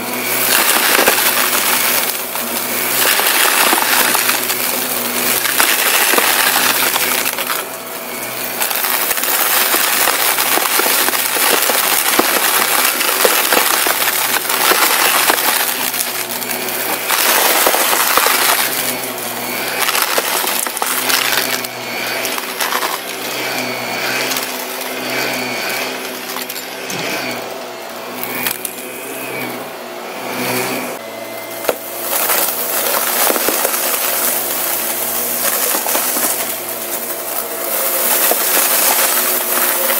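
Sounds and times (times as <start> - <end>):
debris rattling through vacuum: 0.0 - 29.5, 30.4 - 39.9
vacuum cleaner motor humming: 0.0 - 39.9.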